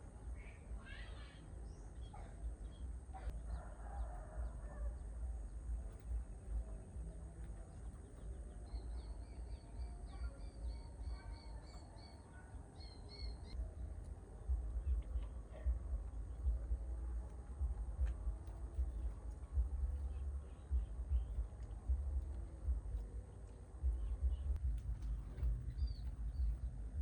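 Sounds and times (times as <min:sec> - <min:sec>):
low steady rumble: 0:00.0 - 0:27.0.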